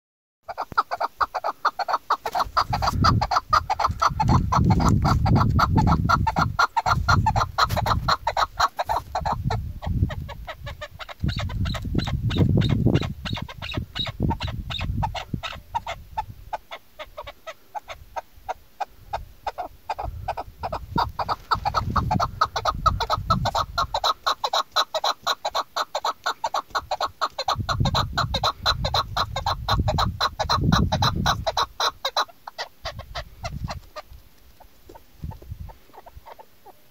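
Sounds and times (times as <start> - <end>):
partridge clucking: 0.5 - 16.0, 19.5 - 34.1.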